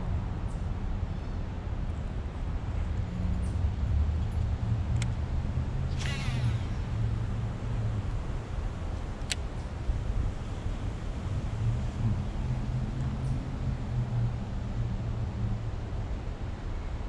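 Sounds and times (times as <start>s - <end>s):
low outdoor rumble: 1.5s - 16.6s.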